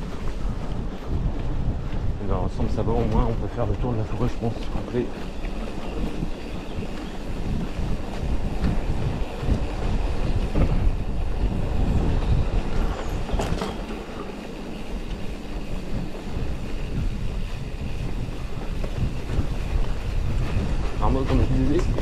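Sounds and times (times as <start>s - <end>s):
bike rattling and knocking: 0.0s - 22.0s
tyres rumbling on dirt: 0.0s - 22.0s
wind buffeting microphone: 0.0s - 22.0s.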